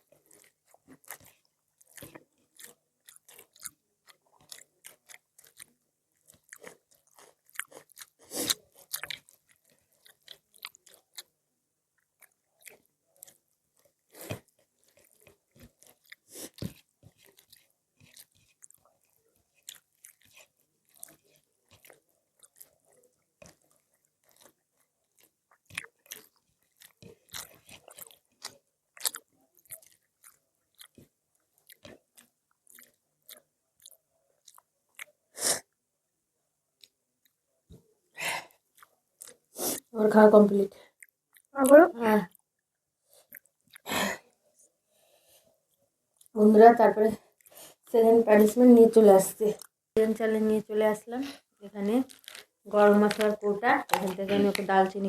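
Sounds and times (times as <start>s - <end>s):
person chewing crunchy food: 0.0s - 11.4s, 12.0s - 35.7s, 36.8s - 39.9s, 40.7s - 44.2s, 47.2s - 47.9s, 51.2s - 55.0s.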